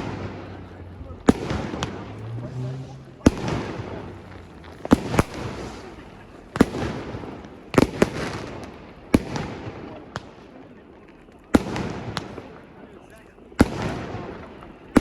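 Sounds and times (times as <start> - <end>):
fireworks bursting with crackle: 0.0 - 15.0.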